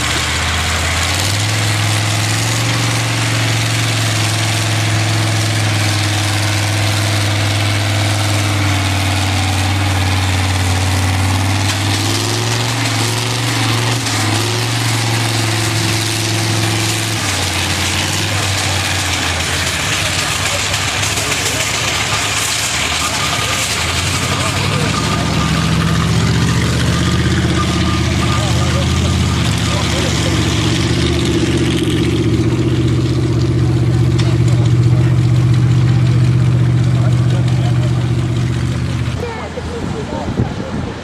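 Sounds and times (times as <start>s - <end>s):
tractor engine droning: 0.0s - 41.0s.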